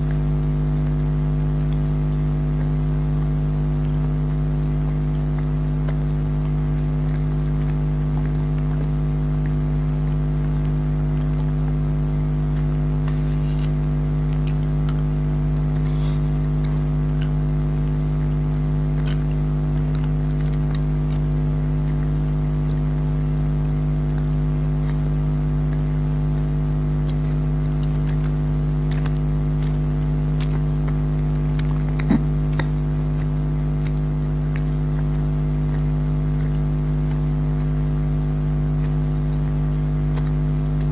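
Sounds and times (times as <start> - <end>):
candy chewing wet clicks: 0.0 - 40.9
low steady hum: 0.0 - 40.9.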